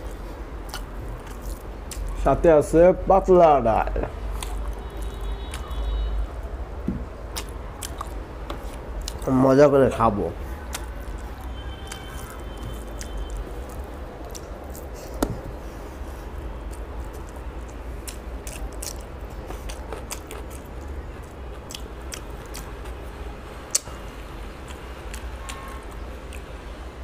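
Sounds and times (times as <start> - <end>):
man chewing with wet mouth clicks: 0.0 - 2.2, 4.2 - 6.1, 7.2 - 9.4, 10.5 - 15.6, 16.4 - 26.6.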